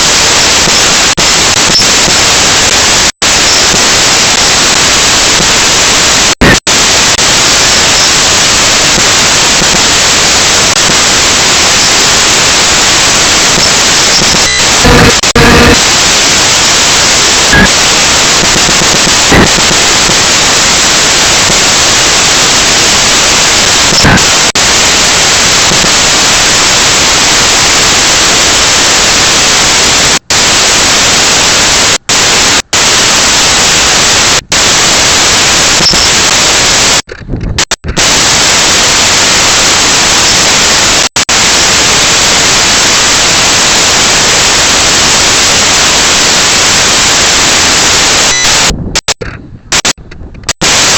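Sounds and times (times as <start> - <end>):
loud static hiss: 0.0 - 50.9.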